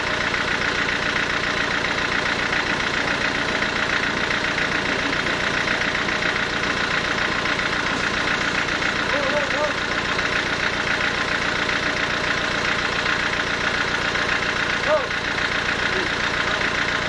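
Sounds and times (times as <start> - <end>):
sawmill machinery drone: 0.0 - 17.0.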